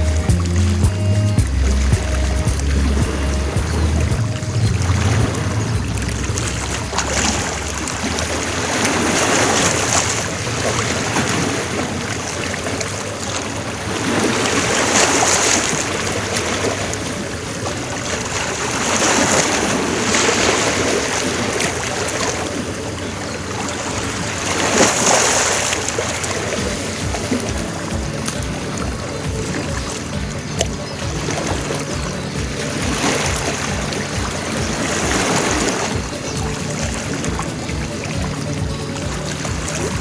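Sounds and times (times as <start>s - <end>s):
sea waves washing onto shore: 0.0s - 40.0s.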